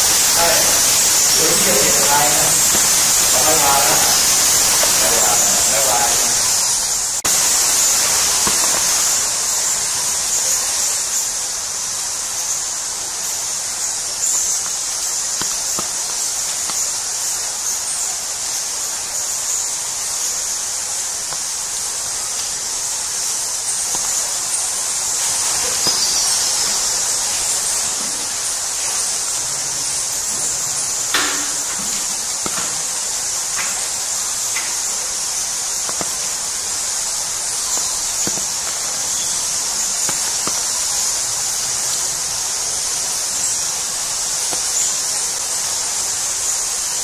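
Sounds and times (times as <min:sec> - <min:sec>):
high-pitched hiss: 0:00.0 - 0:47.0.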